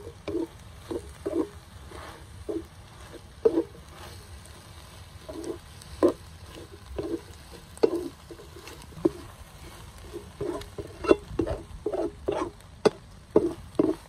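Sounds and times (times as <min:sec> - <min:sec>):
spatula clacking: 0:00.0 - 0:04.3, 0:05.2 - 0:14.0
spatula stirring food in a pan: 0:00.0 - 0:14.0.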